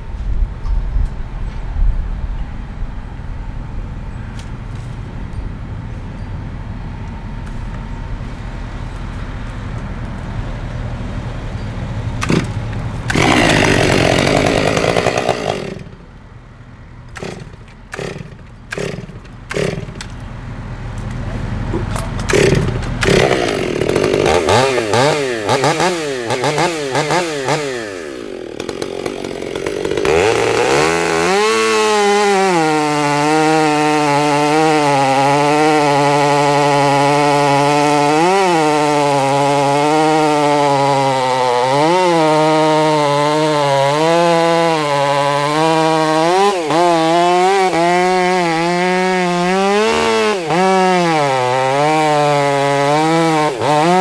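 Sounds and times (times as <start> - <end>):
chainsaw cutting wood: 7.0 - 54.0.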